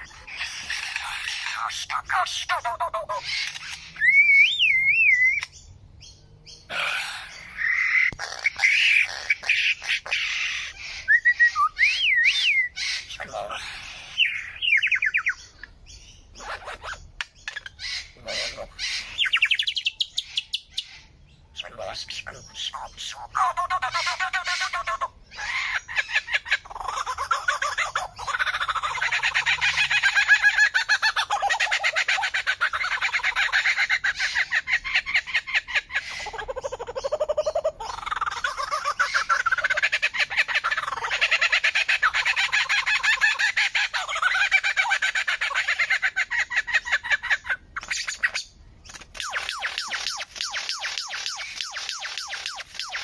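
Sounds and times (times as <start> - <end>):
bird squawks and whistles: 0.0 - 5.6, 6.7 - 15.6, 16.3 - 21.1, 22.0 - 53.0.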